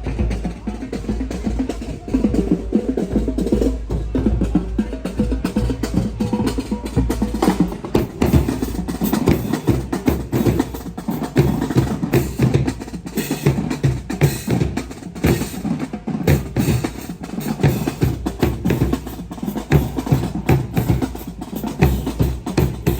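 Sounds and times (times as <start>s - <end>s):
drum ensemble fast beat: 0.0s - 22.9s.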